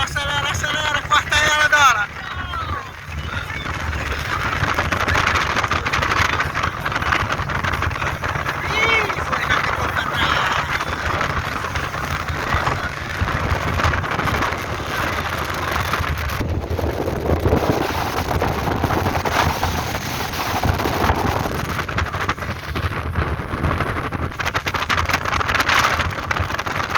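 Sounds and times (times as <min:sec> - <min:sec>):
motorboat engine rumbling: 0:00.0 - 0:26.9
wind buffeting microphone: 0:00.0 - 0:26.9.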